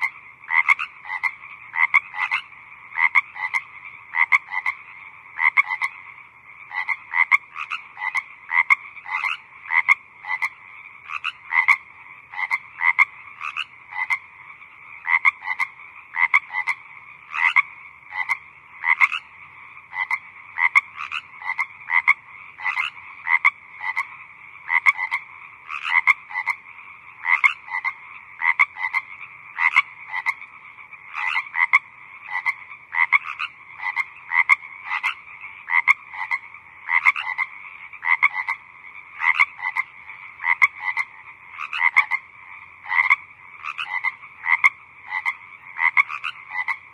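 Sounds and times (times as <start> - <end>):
frogs croaking: 0.0 - 46.9.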